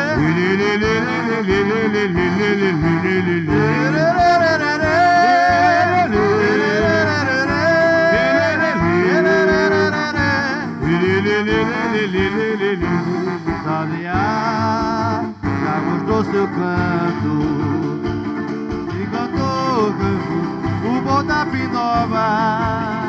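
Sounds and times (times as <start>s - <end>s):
steady drumming: 0.0s - 23.0s.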